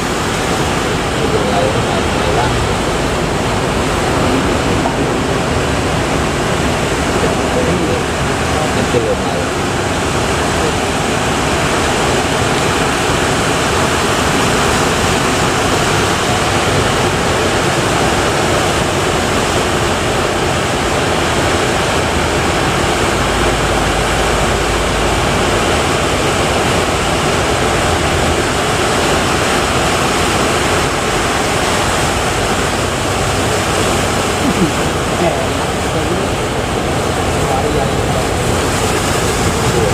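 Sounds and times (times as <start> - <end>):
large waves breaking: 0.0 - 39.9.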